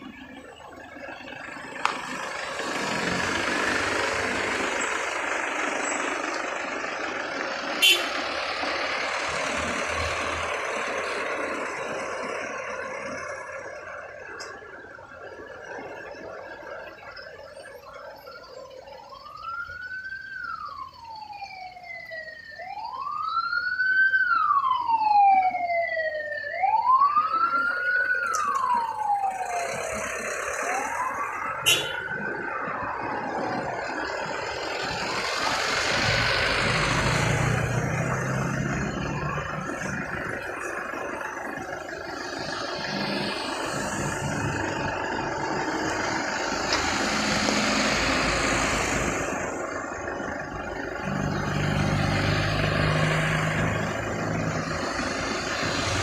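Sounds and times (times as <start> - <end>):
higher siren wail: 0.0 - 56.0
road noise: 0.0 - 56.0
truck engine rumble: 0.0 - 56.0
vehicle siren wailing: 0.0 - 56.0.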